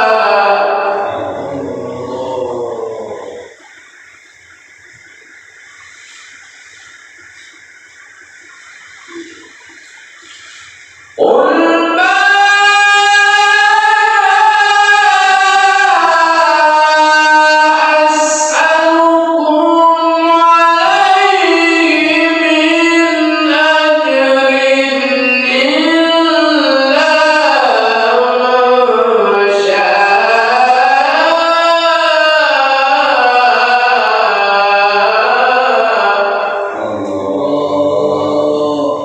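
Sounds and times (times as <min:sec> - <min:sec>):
man reciting melodically: 0:00.0 - 0:05.6, 0:06.3 - 0:39.0.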